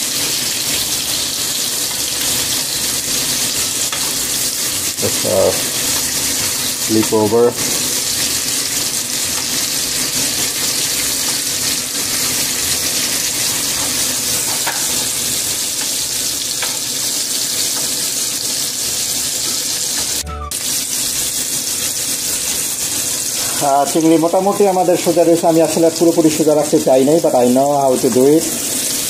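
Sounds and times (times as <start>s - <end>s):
shrimp sizzling in oil: 0.0s - 29.0s.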